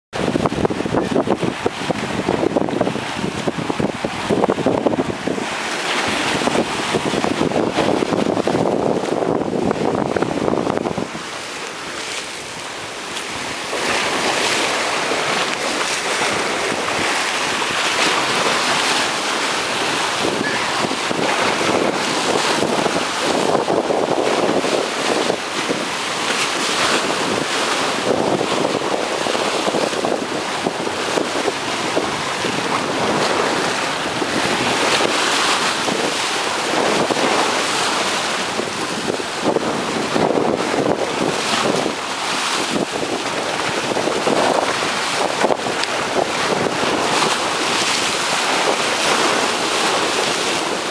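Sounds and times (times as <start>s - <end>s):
wind buffeting microphone: 0.1s - 50.9s
waves splashing against rocks: 0.2s - 50.9s.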